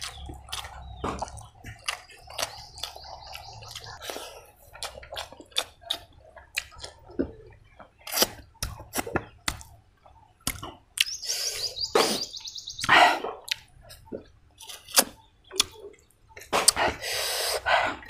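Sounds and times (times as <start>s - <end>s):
wet chewing and lip smacking: 0.0s - 11.3s, 12.8s - 18.0s.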